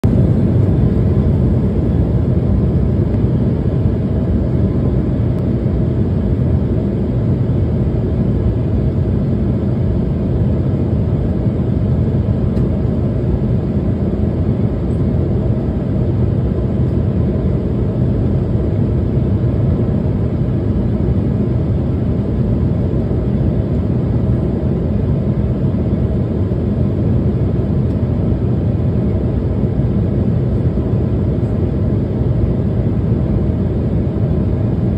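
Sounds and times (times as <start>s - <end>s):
airflow over fuselage: 0.0s - 34.9s
airliner cabin noise: 0.0s - 34.9s
jet engines: 0.0s - 34.9s.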